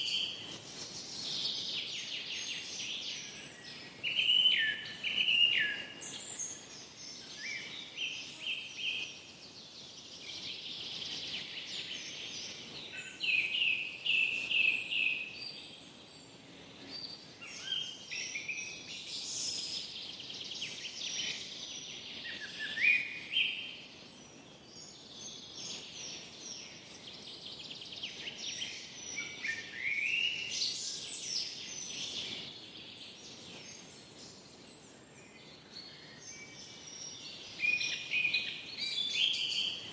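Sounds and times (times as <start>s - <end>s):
faint steady hiss: 0.0s - 39.9s
songbirds chirping and warbling: 0.0s - 39.9s.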